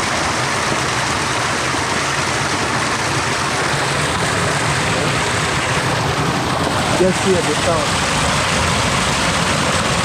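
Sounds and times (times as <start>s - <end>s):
small waterfall rushing: 0.0s - 10.0s.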